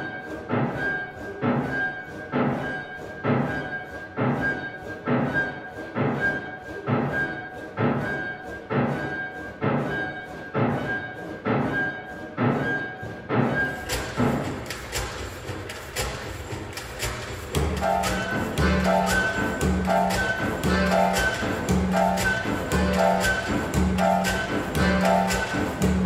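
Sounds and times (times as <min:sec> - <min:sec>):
chamber music: 0:00.0 - 0:26.0
heavy repeating beat: 0:00.3 - 0:26.0.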